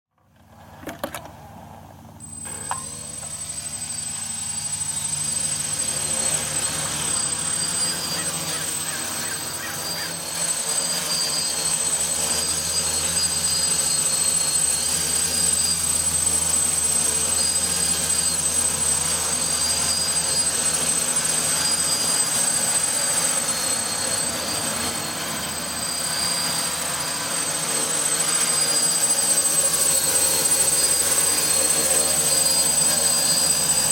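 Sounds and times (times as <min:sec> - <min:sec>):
drone motors buzzing and whining: 0:00.4 - 0:33.9.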